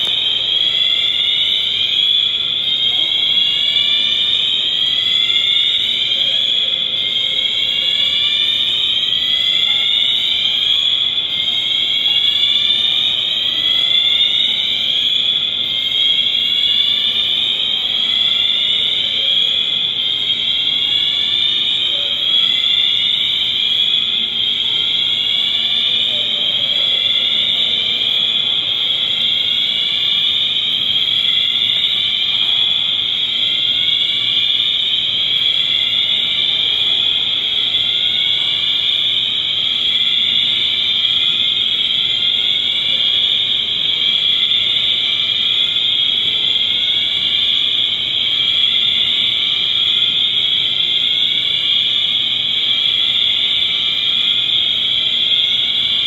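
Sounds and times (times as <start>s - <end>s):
fire alarm sweeping tone: 0.0s - 56.0s.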